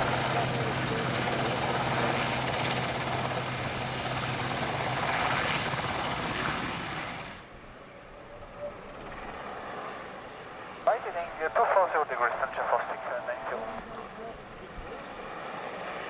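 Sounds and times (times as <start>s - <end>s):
aircraft engine humming: 0.0s - 16.0s.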